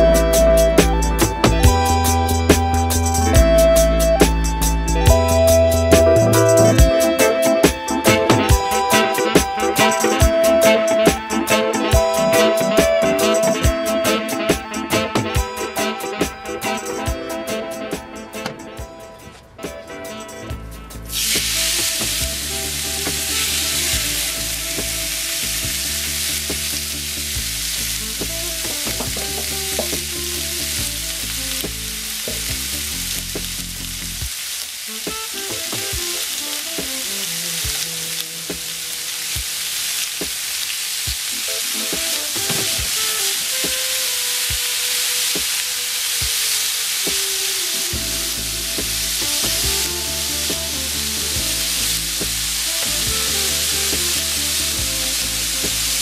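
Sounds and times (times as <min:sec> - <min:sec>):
beef sizzling in a pan: 0:05.1 - 0:18.1, 0:21.0 - 0:56.0.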